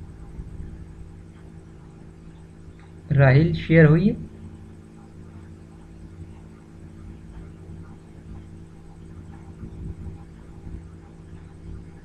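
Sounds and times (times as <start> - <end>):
faint background hiss: 0.0 - 12.0
low electrical hum: 0.0 - 12.0.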